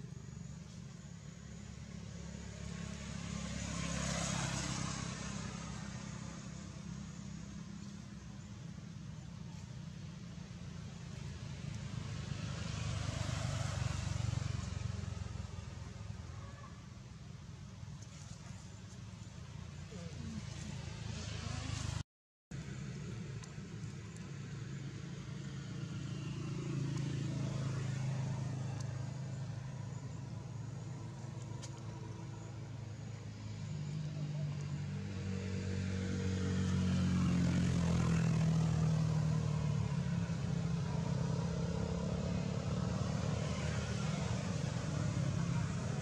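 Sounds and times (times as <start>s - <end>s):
vehicle engine passing: 0.5s - 22.0s, 22.6s - 46.0s.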